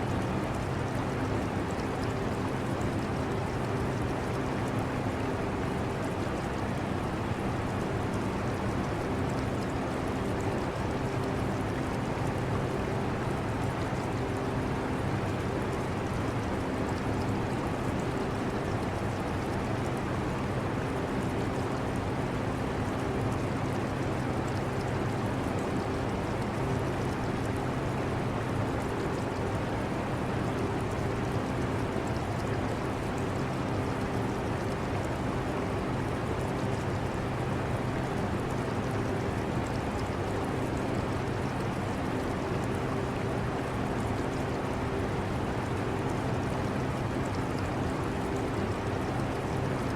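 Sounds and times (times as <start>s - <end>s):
aquarium water trickling: 0.1s - 49.7s.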